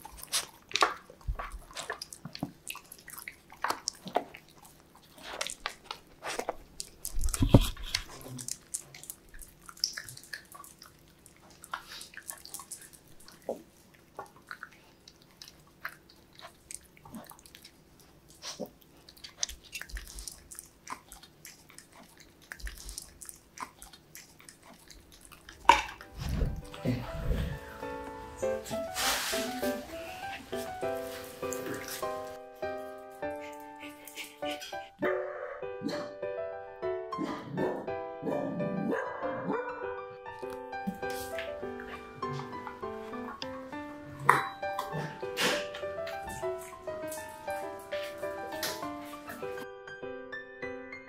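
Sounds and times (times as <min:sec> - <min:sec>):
dogs crunching vegetables: 0:00.0 - 0:35.0, 0:40.4 - 0:49.6.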